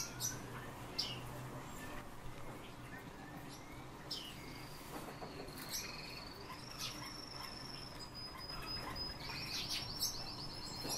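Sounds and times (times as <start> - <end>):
songbirds trilling: 0.0 - 10.9.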